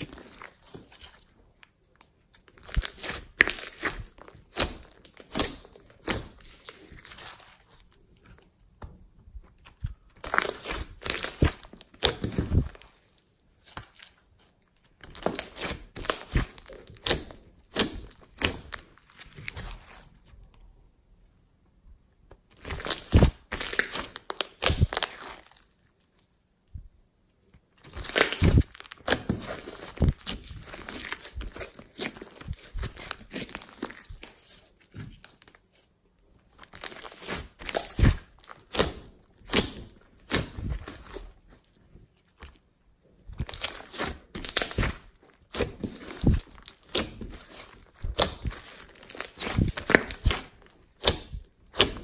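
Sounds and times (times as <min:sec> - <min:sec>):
slime crackling and popping: 0:00.0 - 0:08.0, 0:09.6 - 0:13.1, 0:15.0 - 0:20.6, 0:22.5 - 0:25.8, 0:27.7 - 0:35.8, 0:36.5 - 0:41.6, 0:43.2 - 0:52.0.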